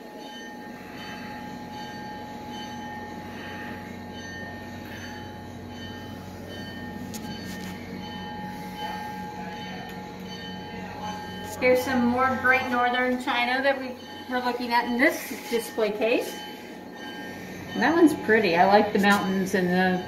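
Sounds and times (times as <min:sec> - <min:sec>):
mechanical hum with held tones: 0:00.0 - 0:20.0.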